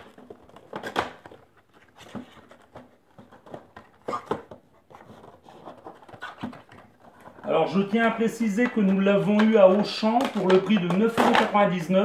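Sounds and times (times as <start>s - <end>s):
cardboard and plastic scrapes and taps: 0.0s - 11.7s.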